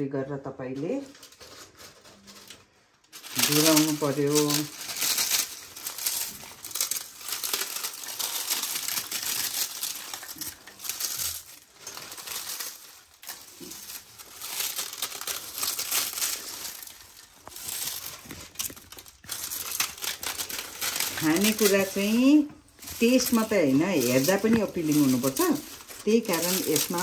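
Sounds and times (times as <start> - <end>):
crisp papad crackling by hand: 0.8 - 27.0.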